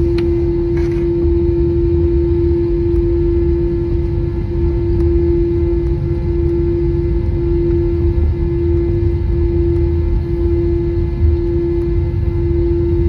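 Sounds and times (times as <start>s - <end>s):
aircraft cabin engine hum: 0.0s - 13.0s.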